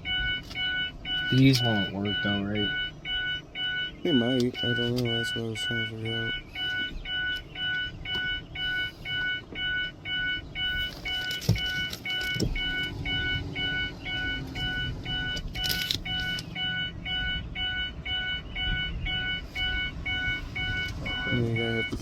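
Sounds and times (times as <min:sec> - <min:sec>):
electronic warning beeping: 0:00.0 - 0:22.0.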